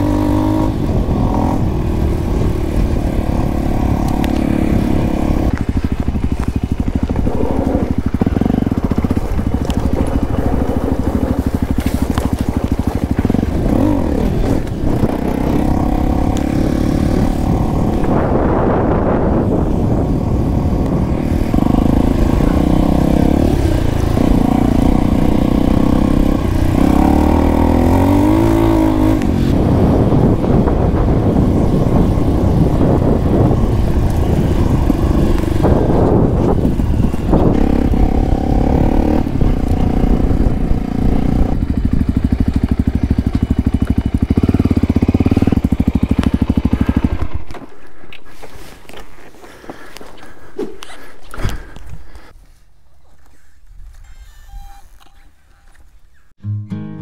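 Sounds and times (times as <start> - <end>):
motorcycle engine revving: 0.0 - 52.3.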